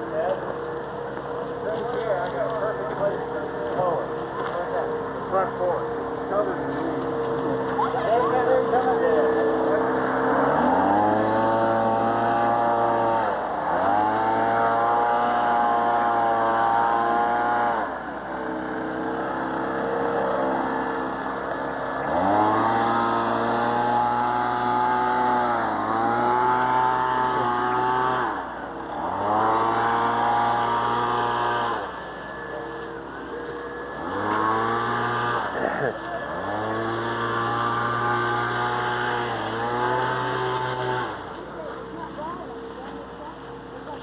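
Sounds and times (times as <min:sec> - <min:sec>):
engine revving: 0:00.0 - 0:44.0.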